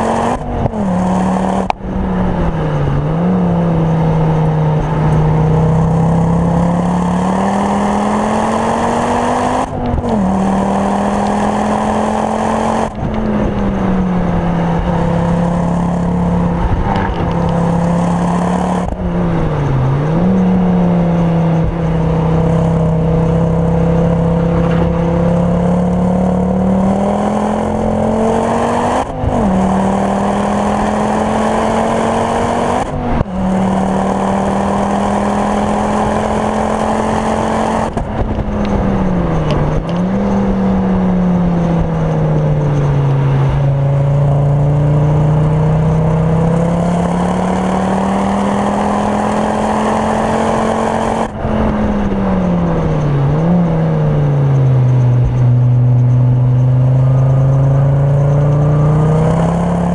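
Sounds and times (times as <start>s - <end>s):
car engine revving inside cabin: 0.0s - 59.9s.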